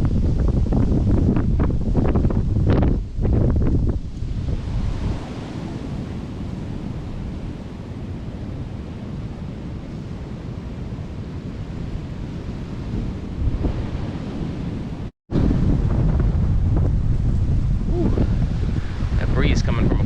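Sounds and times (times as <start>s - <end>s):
strong wind across microphone: 0.0s - 20.0s.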